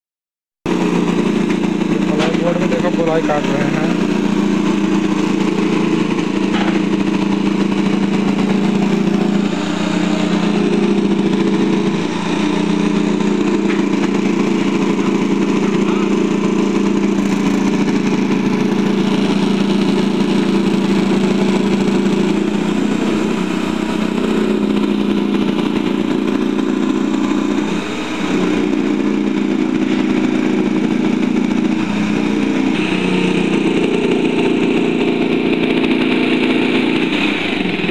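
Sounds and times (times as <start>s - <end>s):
jigsaw cutting plywood: 0.7s - 37.9s.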